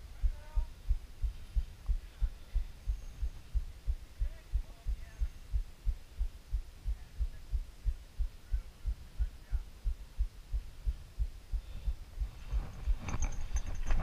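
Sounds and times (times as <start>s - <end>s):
faint hiss: 0.0s - 13.6s
muffled low thumps: 0.0s - 14.0s.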